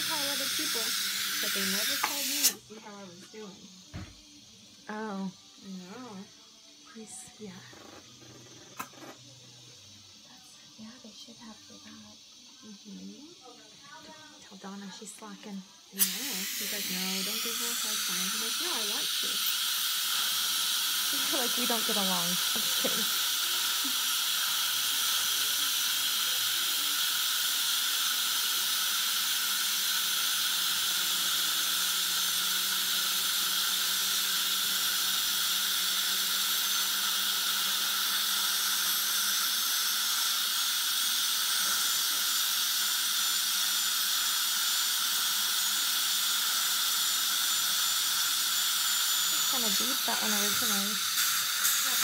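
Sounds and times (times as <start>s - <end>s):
dental suction hissing: 0.0s - 52.0s
high-speed dental drill: 0.0s - 52.0s.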